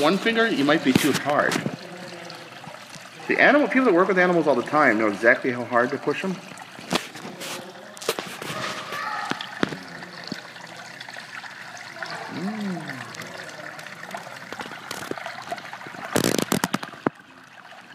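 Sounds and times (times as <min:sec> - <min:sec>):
water trickling: 0:00.0 - 0:17.9.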